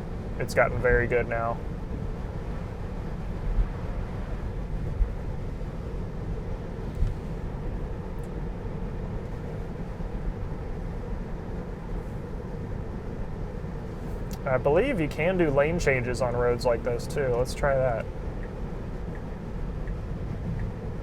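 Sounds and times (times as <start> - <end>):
road and tyre noise in car: 0.0 - 21.0.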